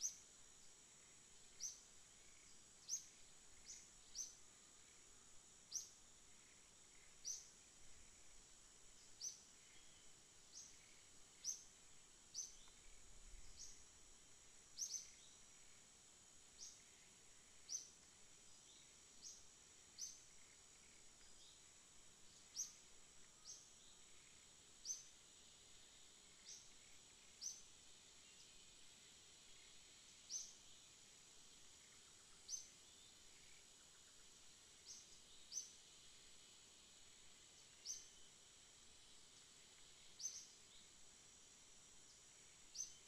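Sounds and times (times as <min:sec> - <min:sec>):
steady high insect hum: 0:00.0 - 0:43.0.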